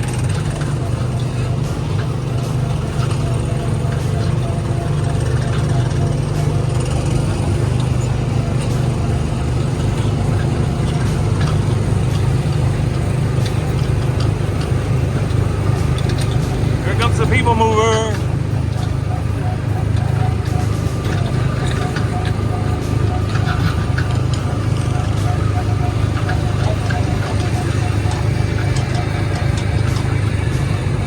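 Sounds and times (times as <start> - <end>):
small gasoline engine running: 0.0 - 31.0.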